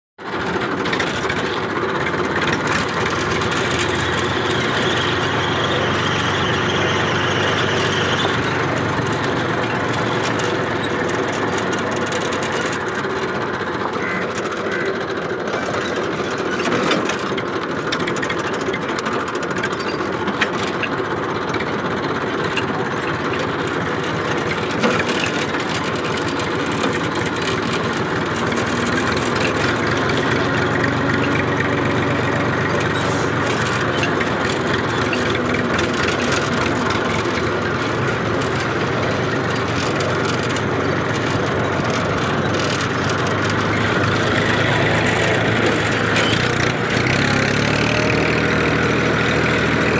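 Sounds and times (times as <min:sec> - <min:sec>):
tractor diesel engine running: 0:00.2 - 0:49.9.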